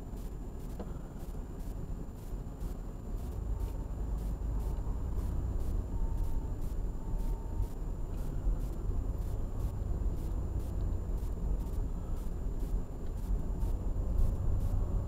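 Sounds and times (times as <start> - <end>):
engine and tyre rumble: 0.0 - 15.0
faint high-pitched whine: 0.0 - 15.0.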